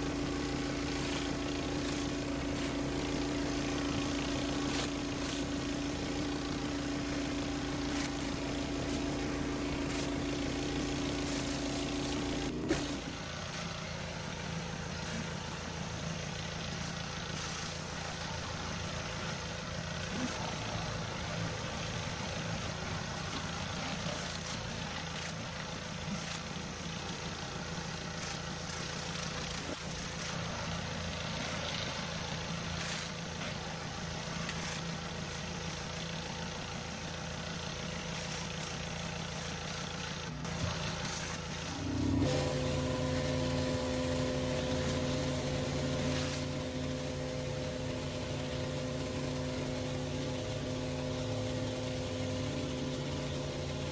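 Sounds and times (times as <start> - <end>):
pressure washer motor humming: 0.0 - 53.9.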